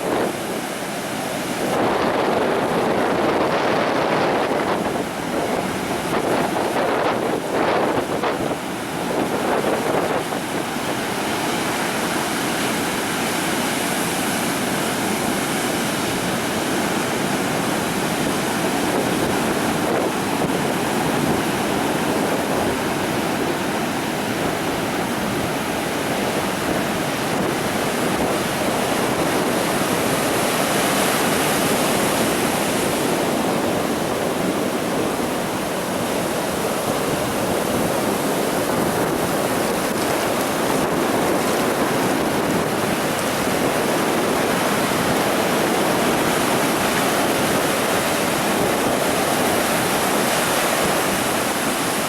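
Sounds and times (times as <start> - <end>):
waves washing onto beach: 0.0 - 52.0.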